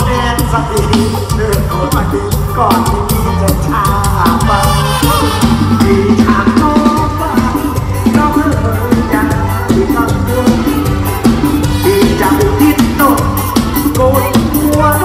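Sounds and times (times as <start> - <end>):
amplified live band music: 0.0 - 15.0
fast drum and percussion beat: 0.0 - 15.0
heavy bass line: 0.0 - 15.0
person singing: 0.0 - 15.0.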